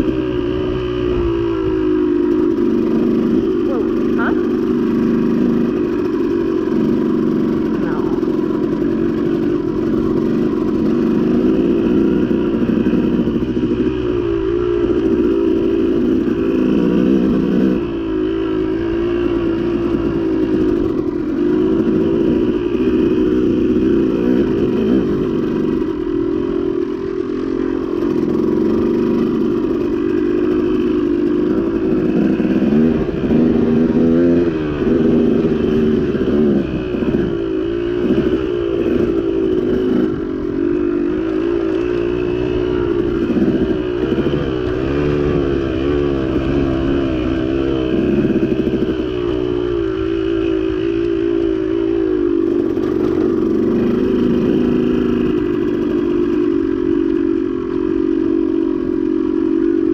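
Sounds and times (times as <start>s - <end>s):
two-stroke dirt bike engine revving: 0.0s - 59.9s.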